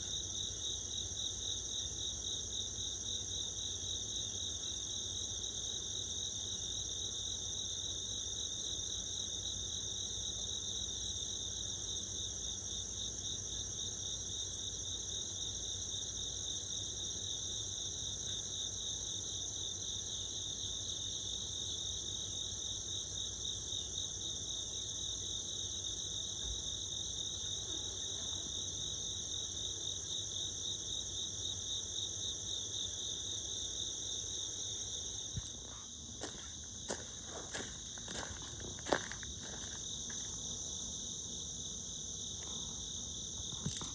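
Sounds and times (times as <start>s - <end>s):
crickets and night insects trilling: 0.0s - 43.9s.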